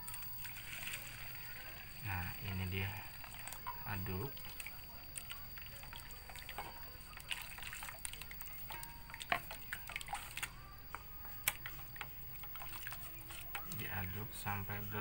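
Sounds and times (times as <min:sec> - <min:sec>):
liquid sloshing in bowl: 0:00.0 - 0:14.8.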